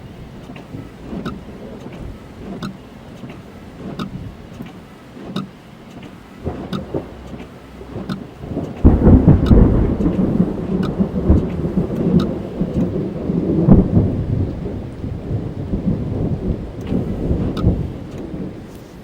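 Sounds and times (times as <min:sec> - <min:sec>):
thunder rumbling: 0:00.0 - 0:04.6, 0:06.3 - 0:19.0
rain on a car: 0:00.0 - 0:19.0.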